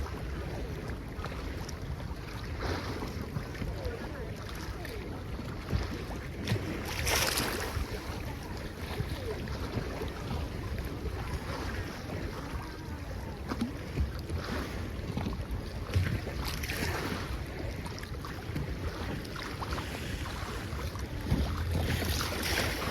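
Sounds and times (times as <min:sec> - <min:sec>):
sea waves splashing: 0:00.0 - 0:22.9
wind rumble on microphone: 0:00.0 - 0:22.9.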